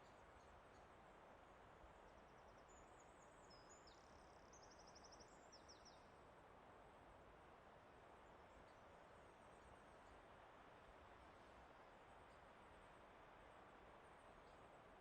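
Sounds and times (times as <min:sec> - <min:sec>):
low rush of background noise: 0:00.0 - 0:15.0.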